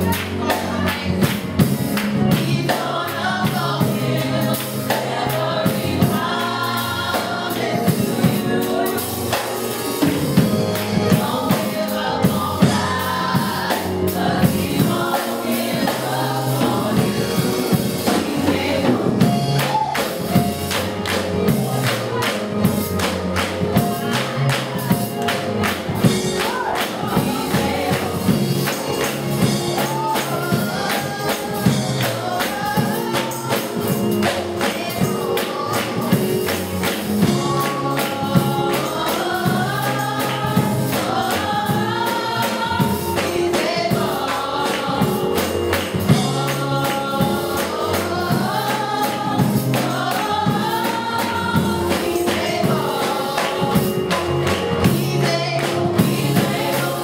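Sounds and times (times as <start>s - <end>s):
bass notes: 0.0s - 57.0s
tambourine-like percussion: 0.0s - 57.0s
women singing gospel song: 0.0s - 57.0s.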